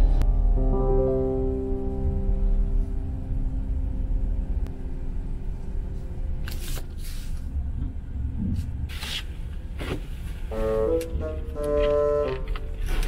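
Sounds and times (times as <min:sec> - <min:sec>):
car engine rumble and road noise: 0:01.3 - 0:13.0.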